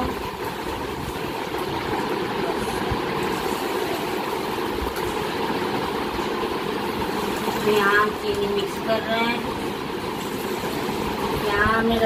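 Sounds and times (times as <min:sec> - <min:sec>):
machine whirring: 0:00.0 - 0:12.0.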